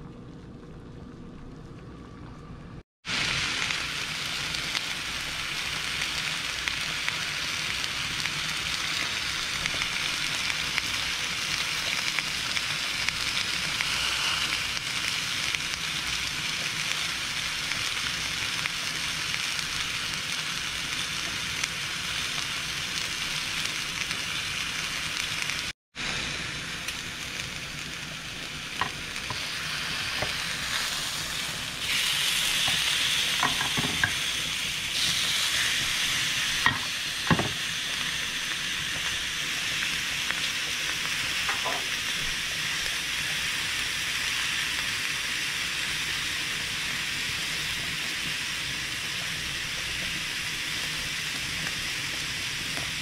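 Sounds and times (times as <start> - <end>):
chicken sizzling on grill pan: 3.1 - 53.0.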